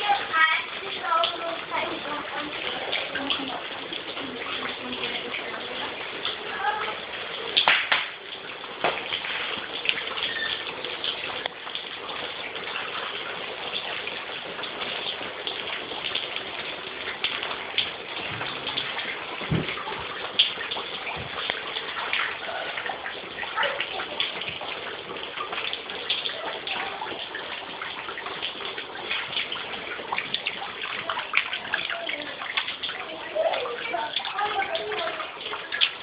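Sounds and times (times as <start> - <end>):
water drips ticking: 0.0 - 36.0
water streaming from ceiling: 0.0 - 36.0.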